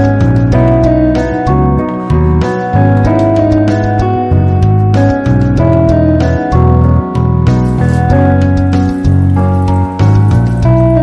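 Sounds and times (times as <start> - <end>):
background music held notes: 0.0 - 11.0.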